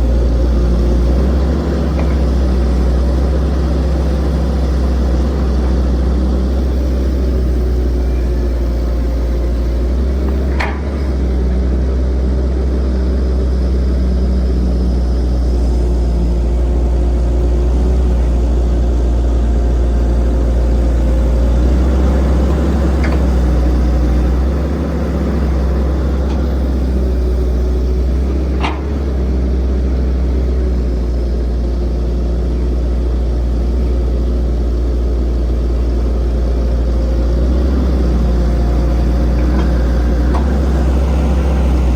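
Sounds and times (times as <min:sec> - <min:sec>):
diesel engine rumbling: 0:00.0 - 0:41.9.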